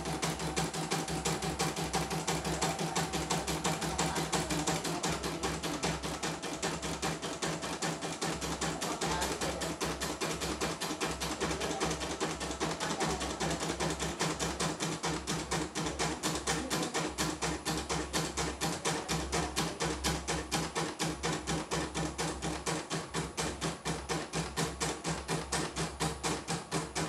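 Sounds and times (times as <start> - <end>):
embroidery machine needle ticking: 0.0 - 27.0.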